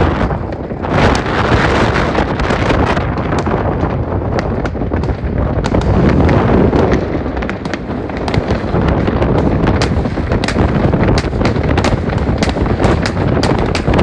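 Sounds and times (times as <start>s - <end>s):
fireworks cracks and bangs: 0.0s - 14.0s.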